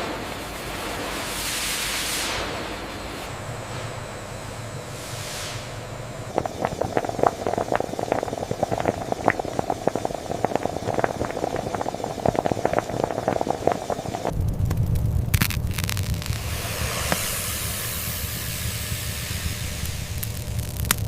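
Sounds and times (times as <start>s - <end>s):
factory machinery running: 0.0s - 21.0s
low rumble: 3.2s - 21.0s.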